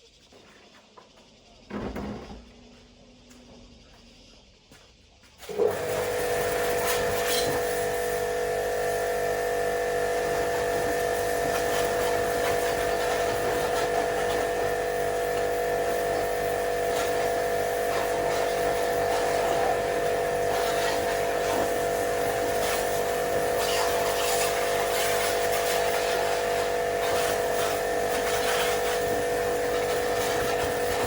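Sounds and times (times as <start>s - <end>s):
electric motor humming: 5.6s - 31.0s.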